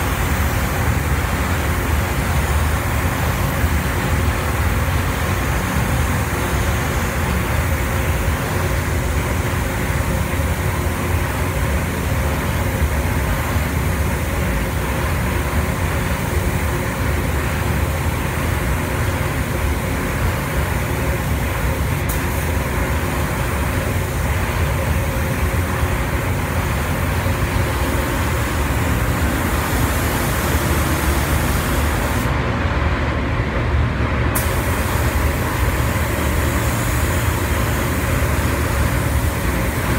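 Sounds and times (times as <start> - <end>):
spray gun hissing: 0.0 - 32.3, 34.4 - 39.9.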